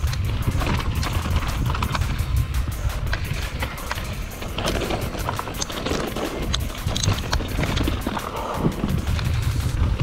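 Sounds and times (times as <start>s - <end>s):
bike chain and frame rattling: 0.0s - 10.0s
bike tyres rumbling on dirt: 0.0s - 10.0s
wind: 0.0s - 10.0s.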